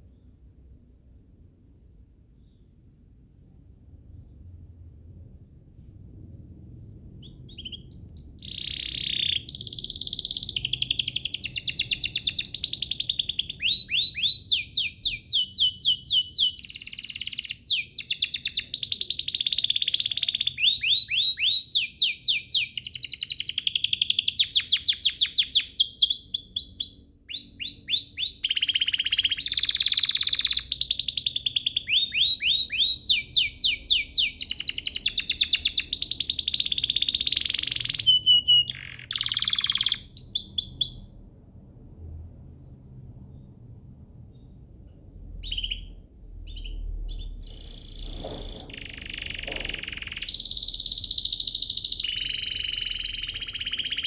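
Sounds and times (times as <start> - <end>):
canary singing trills: 6.4 - 41.2, 45.4 - 54.0.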